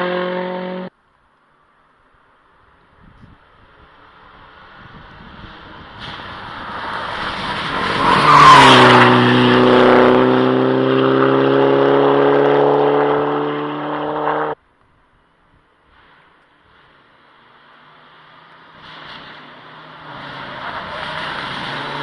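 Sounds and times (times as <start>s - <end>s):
rally car engine at high revs: 0.0s - 0.9s, 3.7s - 14.6s, 16.0s - 22.0s.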